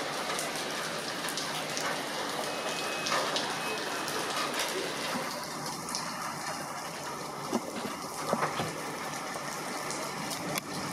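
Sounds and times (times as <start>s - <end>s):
raindrops tapping: 0.0s - 10.9s
steady rain hiss: 0.0s - 10.9s.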